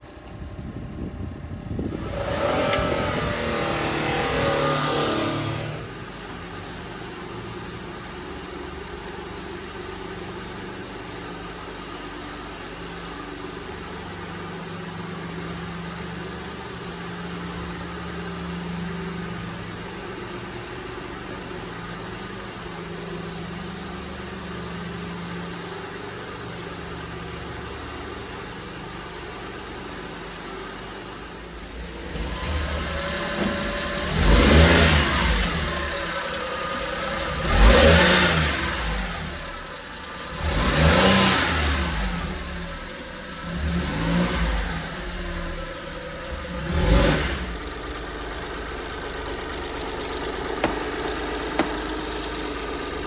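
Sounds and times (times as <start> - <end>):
small truck engine idling: 0.0 - 53.0.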